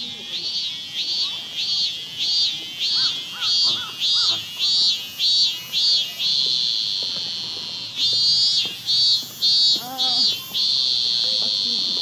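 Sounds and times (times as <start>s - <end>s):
cicada buzzing: 0.0s - 12.0s.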